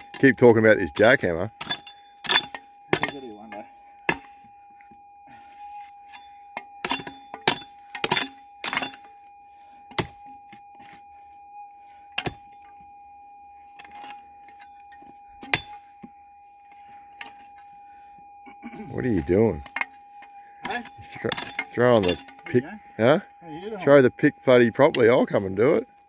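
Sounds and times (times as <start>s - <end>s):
faint steady tone: 0.0s - 26.0s.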